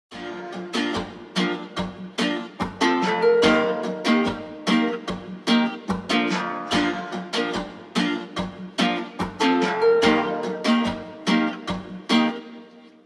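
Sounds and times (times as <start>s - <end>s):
plucked string instrument: 0.1s - 13.0s.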